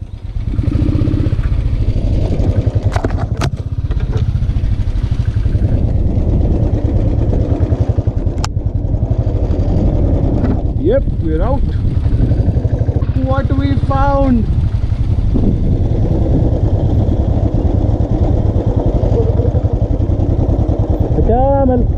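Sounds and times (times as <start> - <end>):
motorcycle engine thumping: 0.0 - 21.9.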